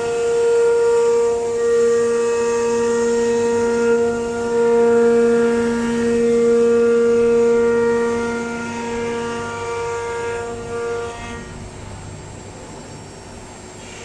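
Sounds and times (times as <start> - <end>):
router spindle whining: 0.0 - 14.0.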